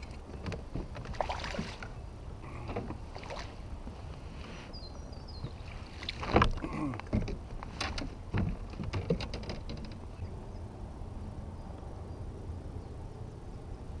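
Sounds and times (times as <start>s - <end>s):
wind and water noise: 0.0s - 14.0s.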